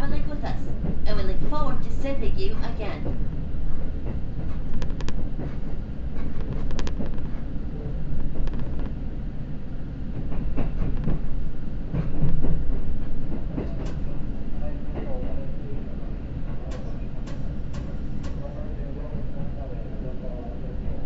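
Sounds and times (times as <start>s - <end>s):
train rumble from inside cabin: 0.0s - 21.0s.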